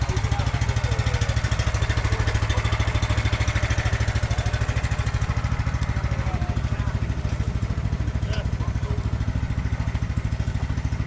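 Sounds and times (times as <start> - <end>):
buggy engine running: 0.0 - 11.0.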